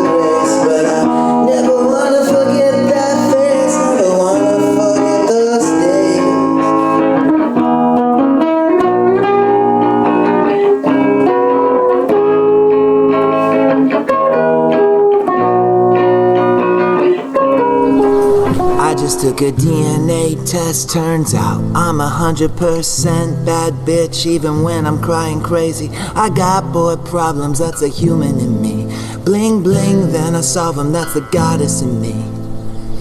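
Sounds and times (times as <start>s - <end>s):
instrumental guitar with sliding notes: 0.0s - 33.0s.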